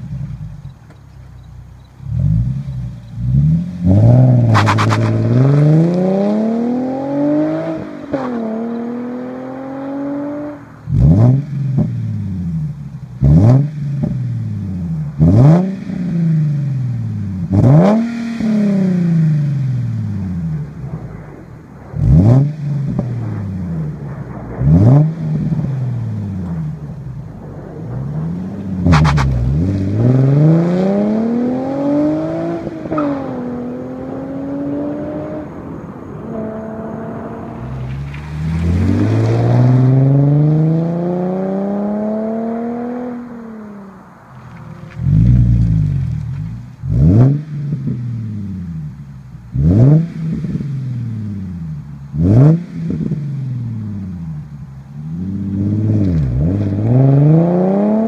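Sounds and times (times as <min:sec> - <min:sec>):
car engine revving: 0:00.0 - 0:58.0
exhaust crack: 0:00.0 - 0:58.0.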